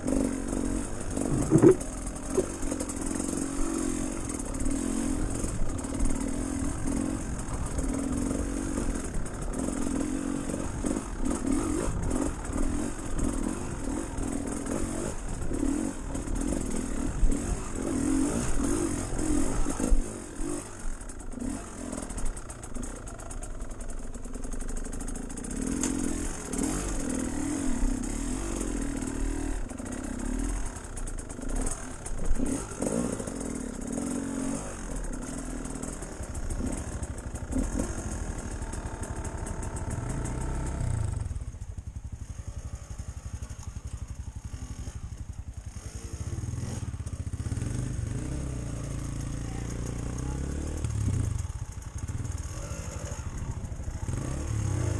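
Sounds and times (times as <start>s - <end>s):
off-road vehicle engine revving: 0.0s - 22.4s, 25.4s - 30.8s, 31.4s - 41.3s, 45.7s - 54.9s.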